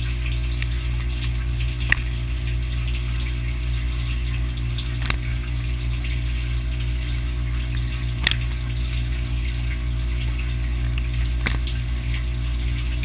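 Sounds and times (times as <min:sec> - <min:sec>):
dishwasher pump hum: 0:00.0 - 0:13.0
water splashing: 0:00.0 - 0:13.0.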